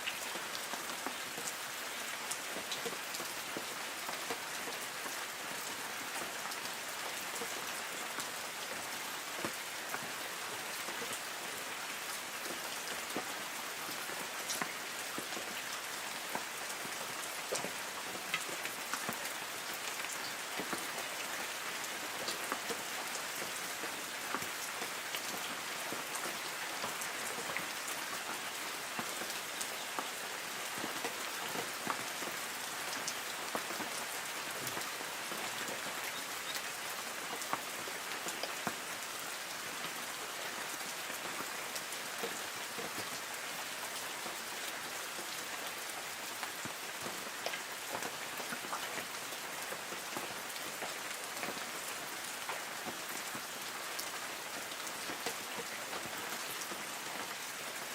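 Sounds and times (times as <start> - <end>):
light rain on leaves: 0.0 - 57.9.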